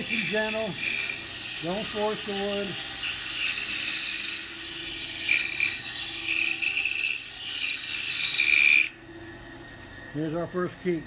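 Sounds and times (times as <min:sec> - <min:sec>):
scroll saw cutting wood: 0:00.0 - 0:09.0
saw motor humming: 0:00.0 - 0:11.0.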